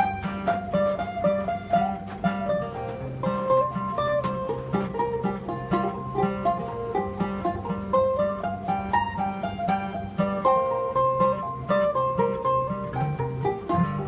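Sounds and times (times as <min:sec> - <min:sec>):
plucked acoustic string instruments: 0:00.0 - 0:14.0.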